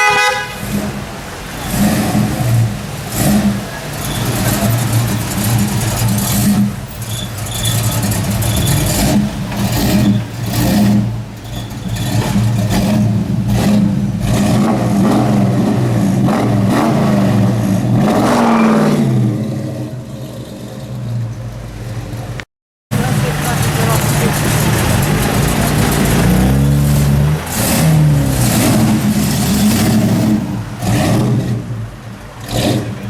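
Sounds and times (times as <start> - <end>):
car engine revving: 0.4 - 33.0.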